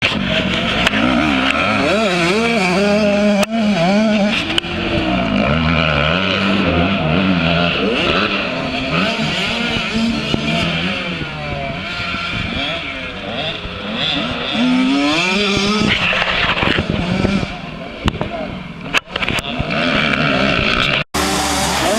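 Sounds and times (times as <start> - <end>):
motocross bike engine revving: 0.0 - 21.9.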